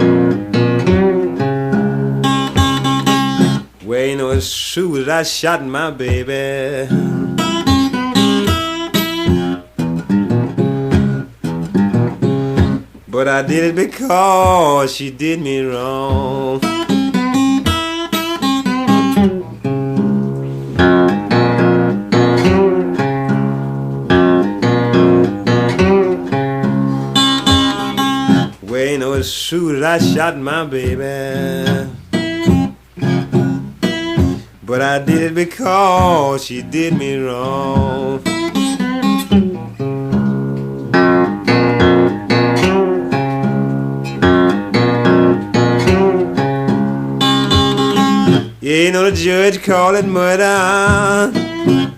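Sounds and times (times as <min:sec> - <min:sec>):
blues guitar: 0:00.0 - 0:51.9.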